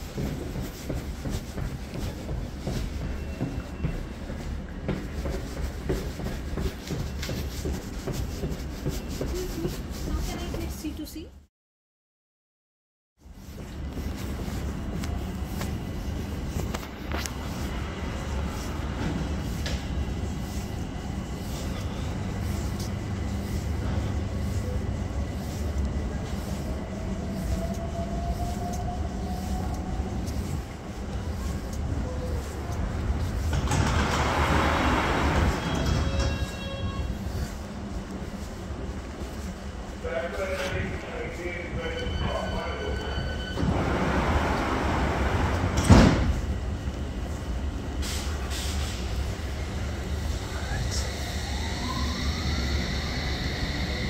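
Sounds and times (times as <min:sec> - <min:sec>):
train clicks and clatter: 0:00.0 - 0:11.3, 0:13.4 - 0:51.2
train rumble: 0:00.0 - 0:11.5, 0:13.2 - 0:54.0.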